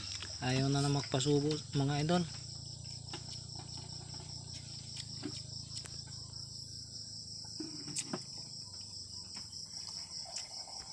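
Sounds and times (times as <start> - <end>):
crickets chirping: 0.0 - 10.9.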